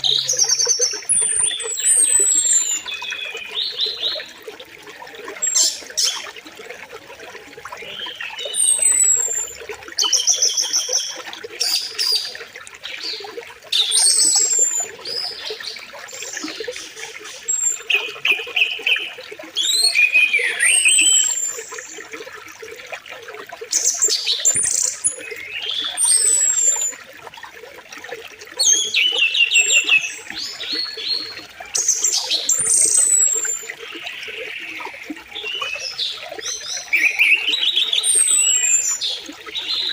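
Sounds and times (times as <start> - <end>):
birds chirping and calling: 0.0 - 4.4, 5.4 - 6.4, 7.8 - 21.8, 23.8 - 27.0, 28.6 - 39.9
flowing river: 0.0 - 39.9.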